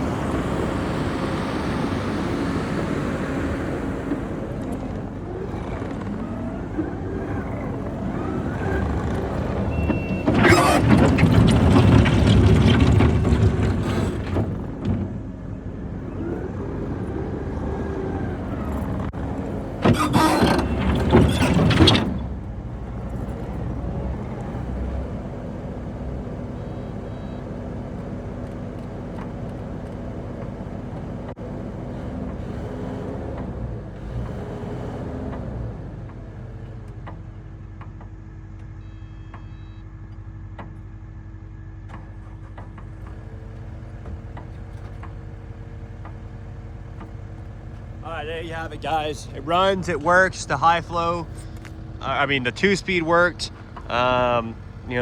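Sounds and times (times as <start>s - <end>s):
diesel engine under load: 0.0s - 55.0s
engine idling: 0.0s - 55.0s.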